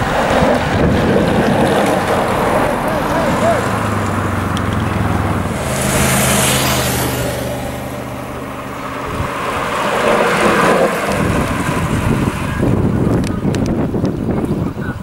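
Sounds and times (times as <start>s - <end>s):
tyre and engine rumble: 0.0s - 15.0s
wind buffeting microphone: 0.0s - 15.0s.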